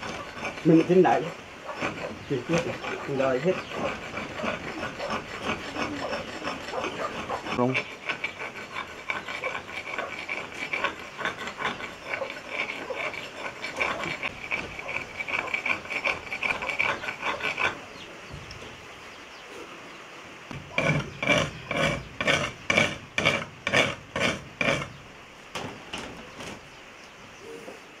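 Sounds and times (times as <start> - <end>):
tool scraping and chipping stone: 0.0 - 18.1, 20.5 - 25.0.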